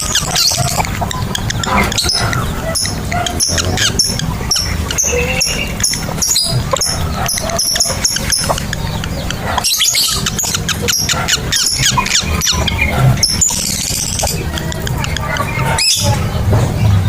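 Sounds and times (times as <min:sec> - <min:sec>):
lovebirds chattering: 0:00.0 - 0:17.0.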